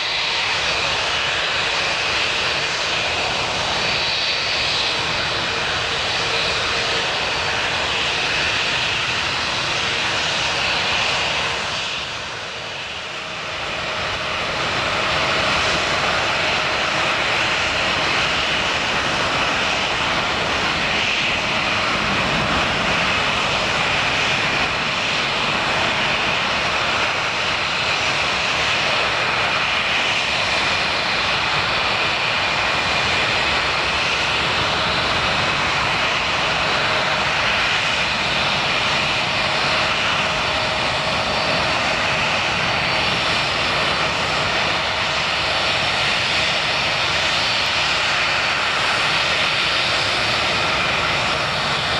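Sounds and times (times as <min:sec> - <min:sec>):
jet airliner taking off: 0:00.0 - 0:51.9.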